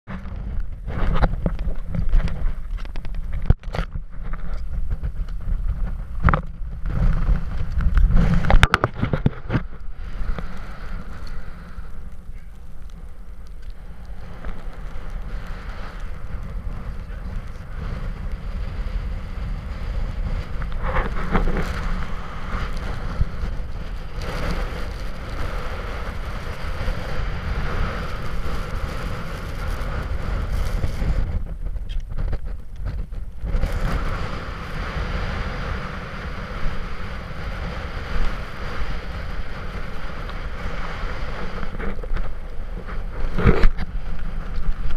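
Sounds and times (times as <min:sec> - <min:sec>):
wind buffeting microphone: 0:00.1 - 0:44.9.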